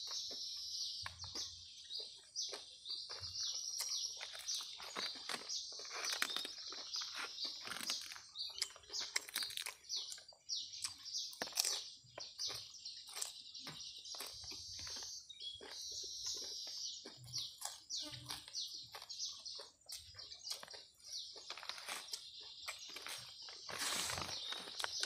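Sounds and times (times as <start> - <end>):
birds chirping: 0.0 - 25.0
wet chewing and lip-smacking: 0.0 - 25.0.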